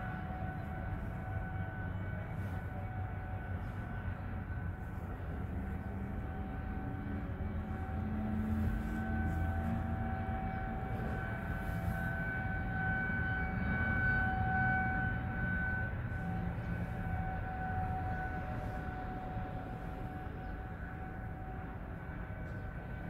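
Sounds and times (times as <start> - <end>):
constant low rumble: 0.0 - 23.0
tornado warning siren: 0.0 - 23.0.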